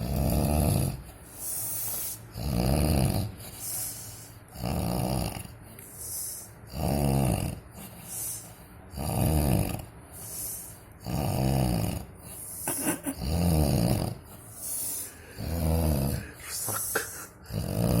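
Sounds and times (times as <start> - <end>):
heavy snoring: 0.0 - 18.0.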